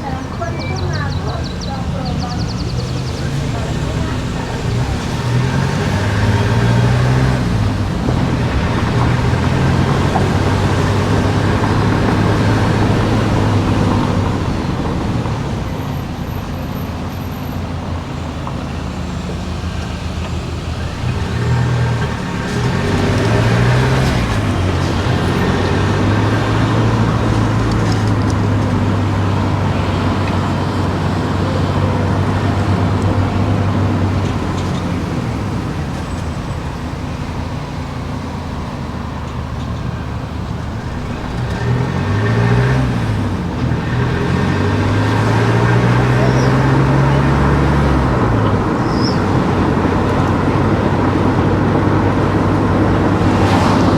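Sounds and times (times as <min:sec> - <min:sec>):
car engine: 0:00.0 - 0:53.9
road noise: 0:00.0 - 0:53.9.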